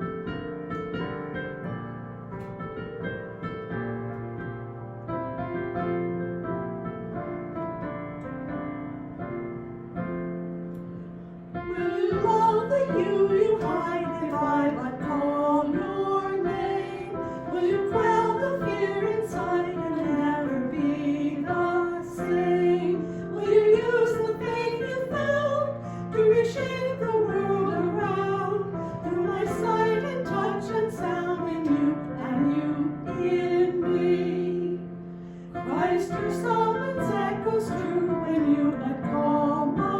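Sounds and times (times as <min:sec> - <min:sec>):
piano playing slow chords: 0:00.0 - 0:39.9.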